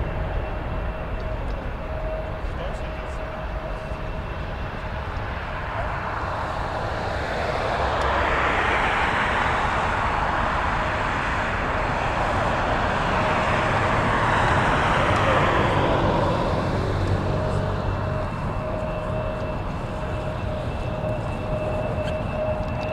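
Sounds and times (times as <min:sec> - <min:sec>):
jet engine roar: 0:00.0 - 0:22.9
thin whine: 0:00.0 - 0:22.9.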